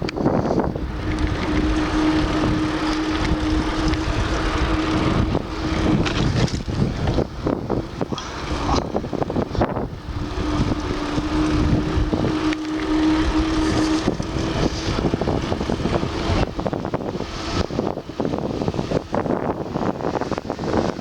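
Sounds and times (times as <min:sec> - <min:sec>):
road and traffic noise: 0:00.0 - 0:21.0
steady low hum: 0:00.0 - 0:21.0
wind buffeting microphone: 0:00.0 - 0:21.0.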